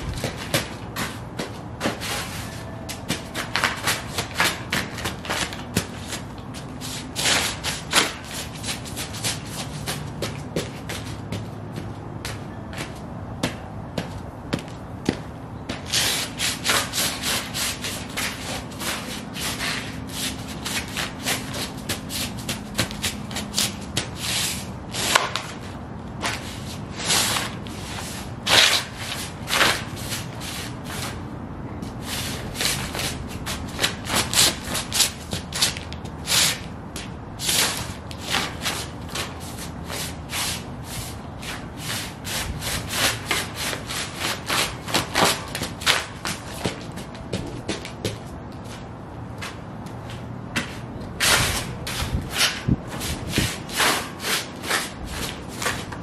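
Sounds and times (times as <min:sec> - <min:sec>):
footsteps on paper: 0:00.0 - 0:31.2, 0:41.4 - 0:56.0.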